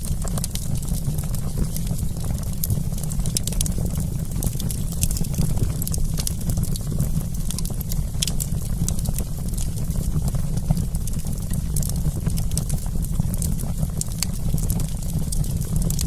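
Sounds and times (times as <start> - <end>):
campfire crackling and popping: 0.0 - 16.0
low rumble of burning fire: 0.0 - 16.0.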